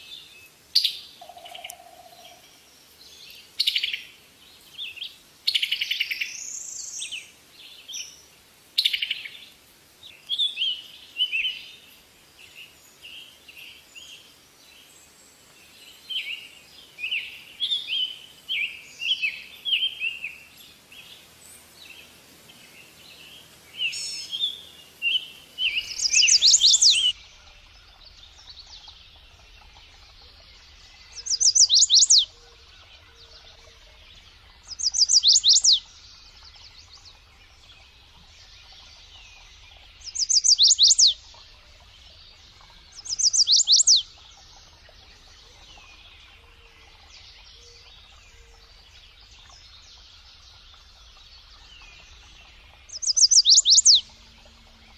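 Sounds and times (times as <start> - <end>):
faint bird chirping: 0.0 - 54.9
songbird singing: 0.0 - 54.9.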